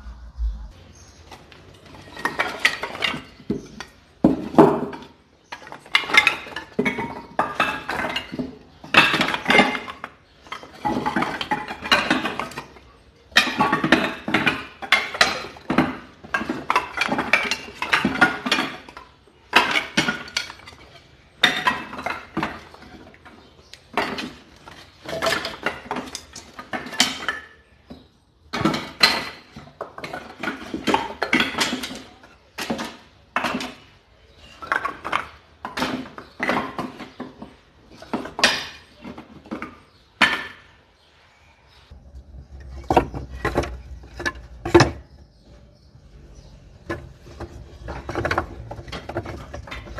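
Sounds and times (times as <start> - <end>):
firewood pieces clattering: 1.3 - 40.8, 41.9 - 49.9.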